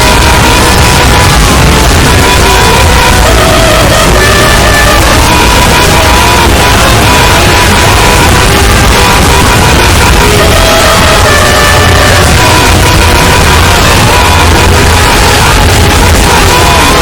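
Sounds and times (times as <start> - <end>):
distorted sound effects and music: 0.0 - 17.0.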